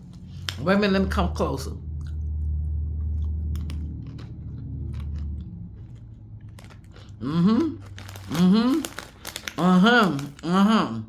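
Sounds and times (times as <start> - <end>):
pretzels being bitten and chewed: 0.0 - 0.7, 1.8 - 11.0
steady low hum: 0.0 - 9.5.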